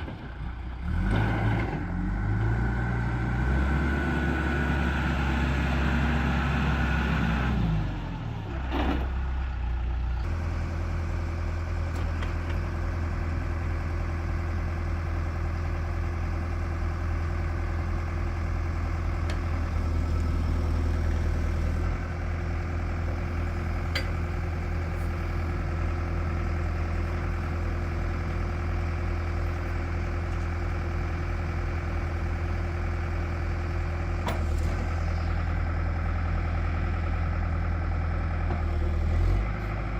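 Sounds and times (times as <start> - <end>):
diesel backhoe engine: 0.0 - 39.9.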